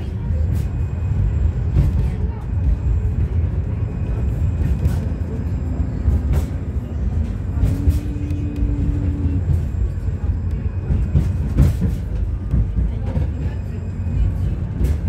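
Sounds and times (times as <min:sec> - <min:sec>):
tram rumbling: 0:00.0 - 0:15.0
wheels clacking on track: 0:00.0 - 0:15.0.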